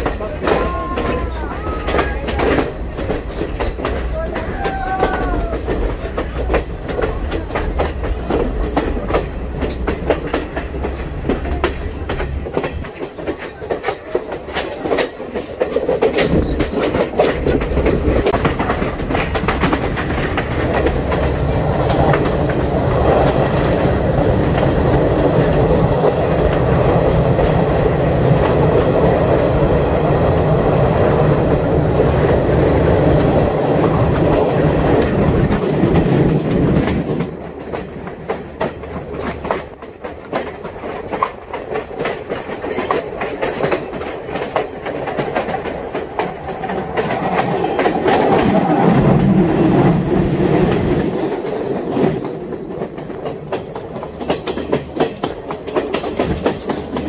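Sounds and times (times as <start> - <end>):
train rumbling along track: 0.0 - 57.0
wheels clicking over rail joints: 0.0 - 57.0.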